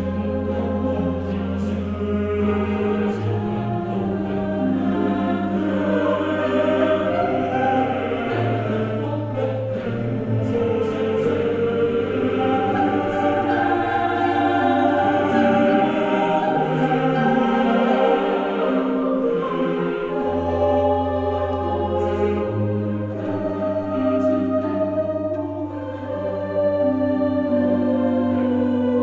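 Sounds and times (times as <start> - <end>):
choir holding long notes: 0.0 - 29.0.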